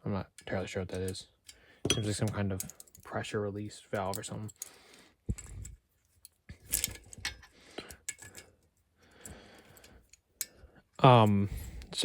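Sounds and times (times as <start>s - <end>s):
metallic clicks of tools and bolts: 0.3s - 3.2s, 3.8s - 12.0s.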